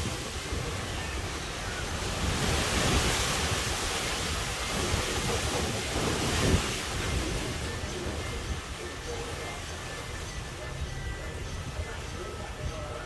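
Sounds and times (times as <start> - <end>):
heavy rain: 0.0 - 13.0
wind buffeting microphone: 0.0 - 13.0.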